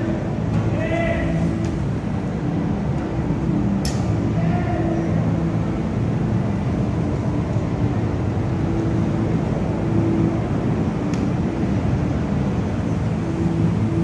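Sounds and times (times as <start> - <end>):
faint engine tones: 0.0 - 14.0
road traffic rumble: 0.0 - 14.0.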